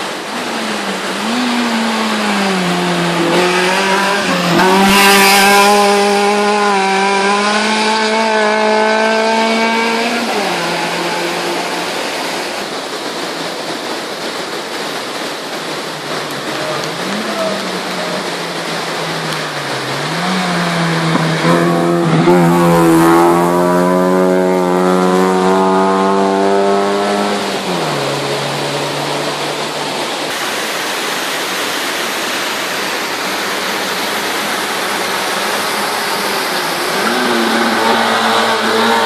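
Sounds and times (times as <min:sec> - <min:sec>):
race car engine at high revs: 0:00.0 - 0:39.0
steady rushing noise: 0:00.0 - 0:39.0.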